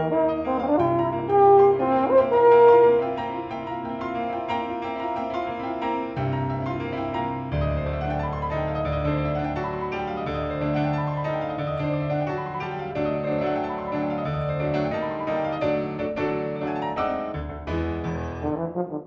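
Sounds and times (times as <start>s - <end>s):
grand piano rapid notes: 0.0s - 19.0s.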